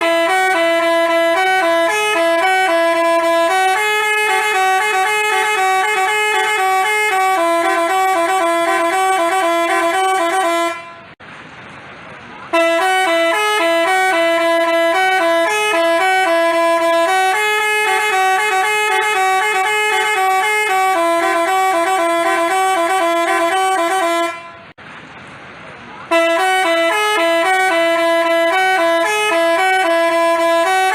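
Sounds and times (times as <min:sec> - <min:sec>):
bus horn playing a melody: 0:00.0 - 0:11.2, 0:12.5 - 0:24.8, 0:26.1 - 0:30.9.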